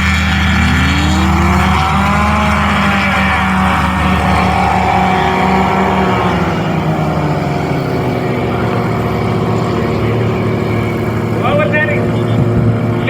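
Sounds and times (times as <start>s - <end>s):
light aircraft engine and propeller: 0.0s - 13.0s.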